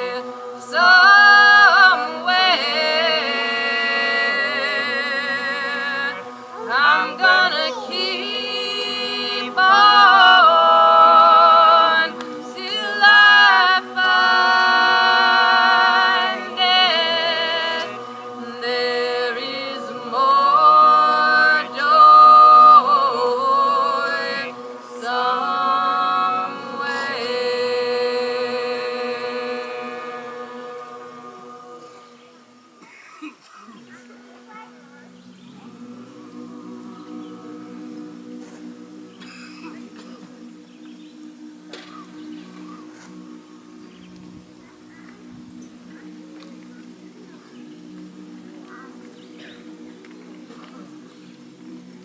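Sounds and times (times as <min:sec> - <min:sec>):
choir singing unaccompanied: 0:00.0 - 0:52.0.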